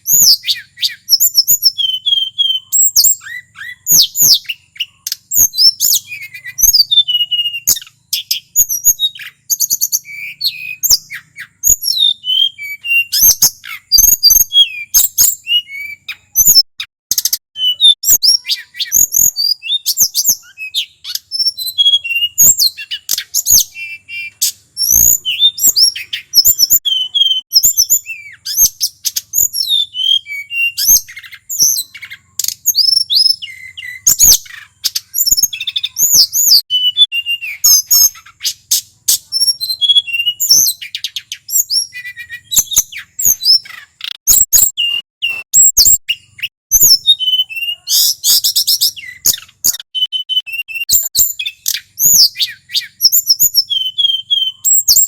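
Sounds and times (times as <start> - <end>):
bird singing high whistled notes: 0.0 - 55.0.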